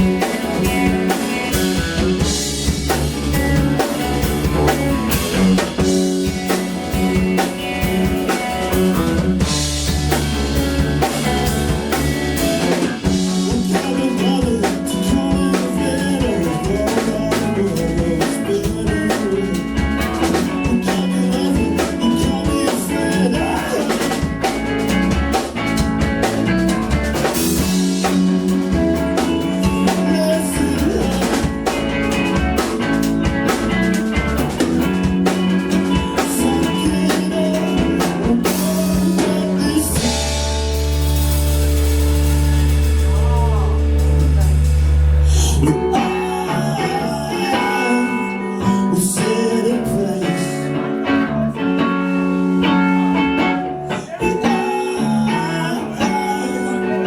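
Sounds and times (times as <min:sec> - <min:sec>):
drum kit beat: 0:00.0 - 0:48.2
live rock band playing: 0:00.0 - 0:57.0.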